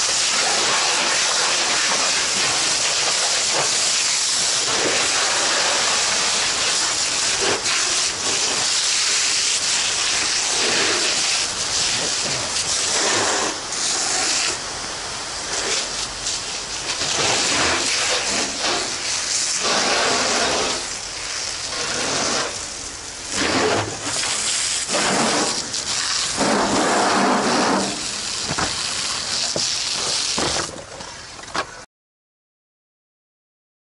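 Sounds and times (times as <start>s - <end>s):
fire hose water spraying: 0.0s - 31.8s.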